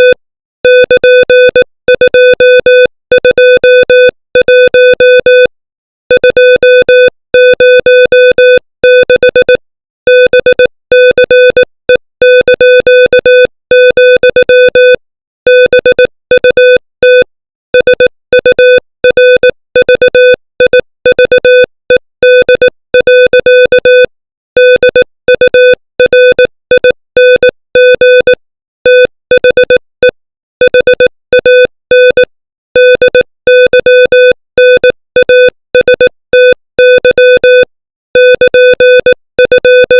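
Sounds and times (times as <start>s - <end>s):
morse code beeps: 0.0s - 5.5s, 6.1s - 39.9s.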